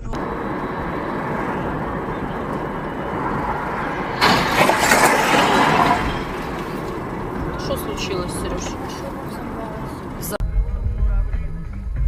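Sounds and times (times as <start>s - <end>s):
car road and engine noise: 0.0s - 10.4s
loud rushing noise: 0.0s - 10.4s.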